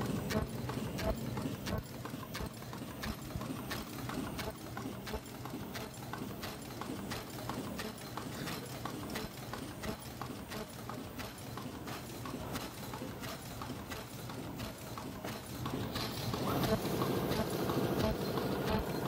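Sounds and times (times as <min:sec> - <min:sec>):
machine mechanical clacks: 0:00.0 - 0:19.0.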